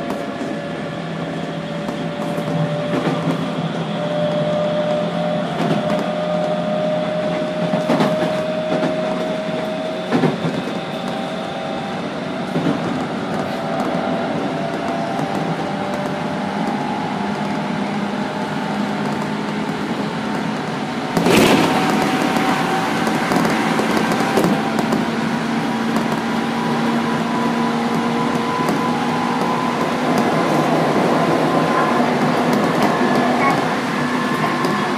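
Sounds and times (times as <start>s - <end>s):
train wheels on rail: 0.0s - 34.9s.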